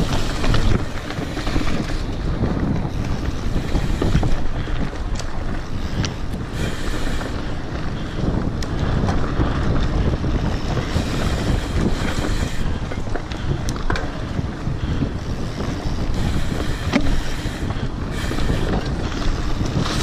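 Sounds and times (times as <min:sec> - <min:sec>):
bike tyres rumbling on rough ground: 0:00.0 - 0:20.0
sharp clicks of bike jolting: 0:00.0 - 0:20.0
wind buffeting microphone: 0:00.0 - 0:20.0.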